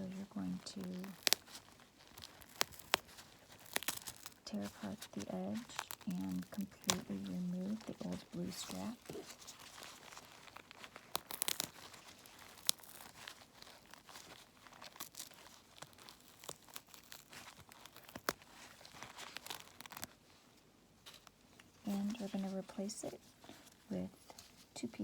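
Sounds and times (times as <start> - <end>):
mask fabric ripping and crinkling: 0.0 - 25.0.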